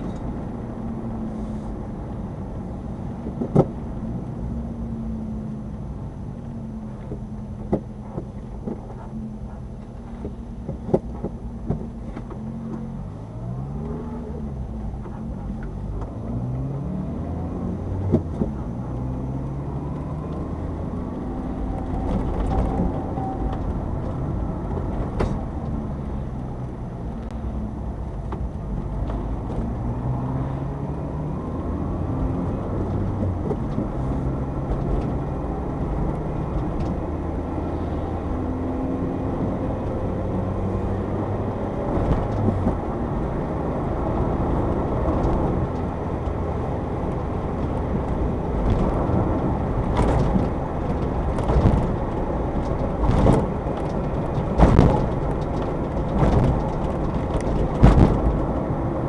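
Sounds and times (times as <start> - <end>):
engine heard from inside cab: 0.0 - 59.0.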